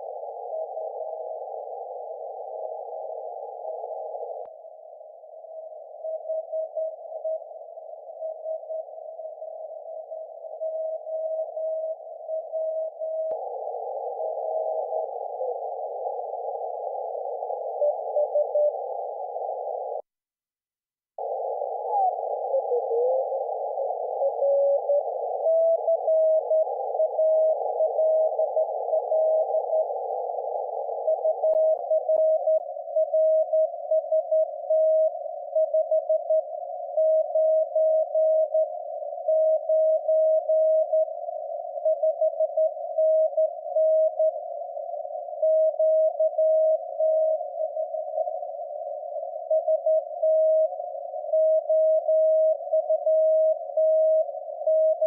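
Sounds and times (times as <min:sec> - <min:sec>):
radio hiss: 0:00.0 - 0:20.0, 0:21.2 - 0:52.8.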